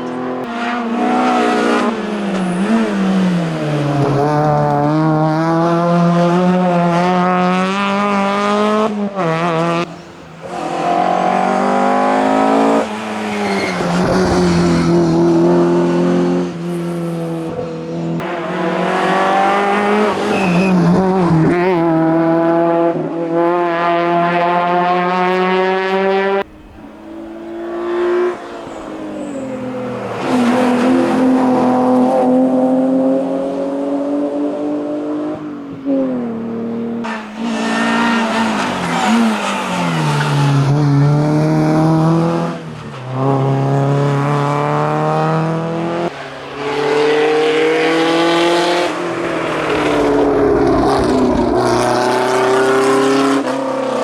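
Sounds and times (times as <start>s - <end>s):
race car engines at high revs: 0.0s - 54.0s.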